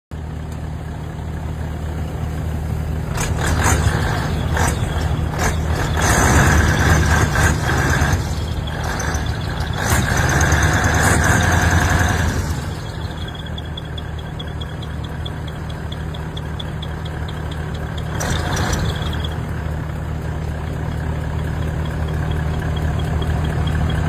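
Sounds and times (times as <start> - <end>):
boat engine humming: 0.1 - 24.0.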